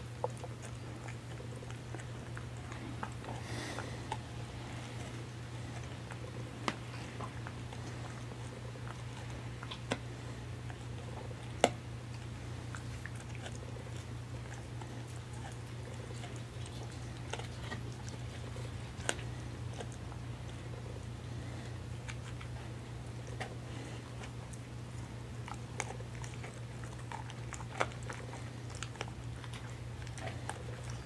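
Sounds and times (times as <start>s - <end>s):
dog crunching chew treat: 0.0s - 31.0s
steady low hum: 0.0s - 31.0s.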